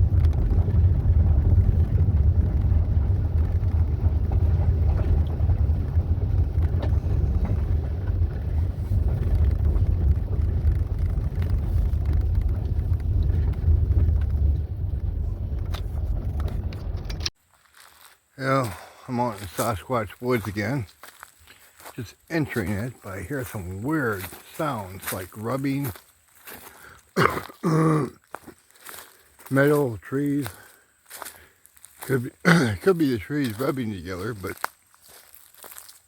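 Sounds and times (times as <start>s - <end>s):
engine and road noise rumble: 0.0s - 36.0s.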